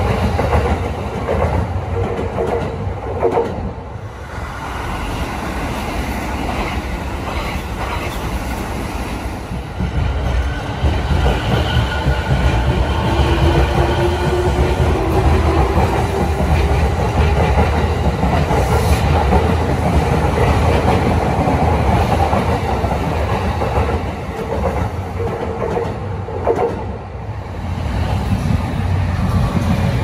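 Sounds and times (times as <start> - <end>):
electric train rolling past: 0.0 - 30.0.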